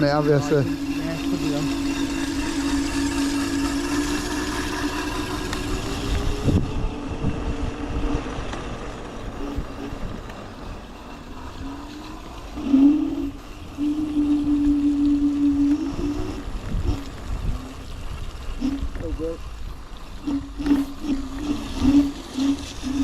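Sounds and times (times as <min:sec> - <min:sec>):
electric scooter whine: 0:00.0 - 0:23.0.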